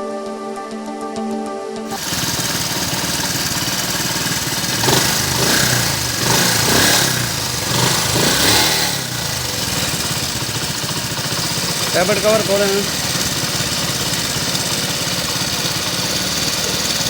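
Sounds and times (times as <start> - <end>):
motorcycle engine idling and revving: 1.9 - 17.0.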